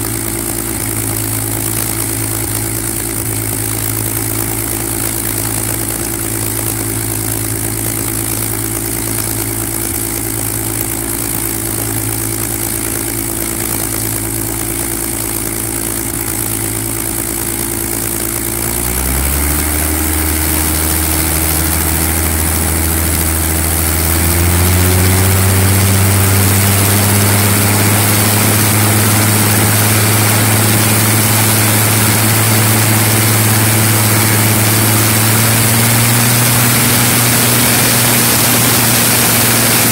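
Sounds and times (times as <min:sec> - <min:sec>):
aircraft piston engine running: 0:00.0 - 0:39.9.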